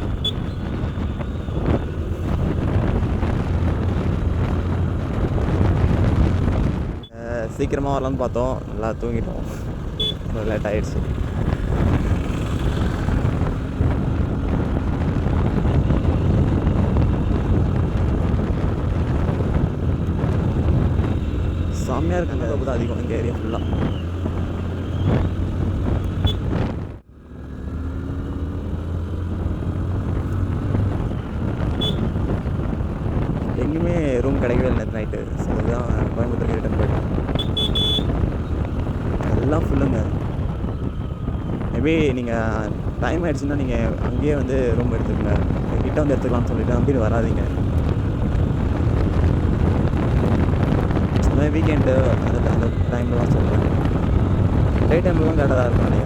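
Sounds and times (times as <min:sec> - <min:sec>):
motorcycle engine: 0:00.0 - 0:07.1, 0:09.4 - 0:34.9, 0:35.5 - 0:56.0
wind buffeting microphone: 0:00.0 - 0:27.1, 0:27.7 - 0:56.0
road noise: 0:00.0 - 0:56.0.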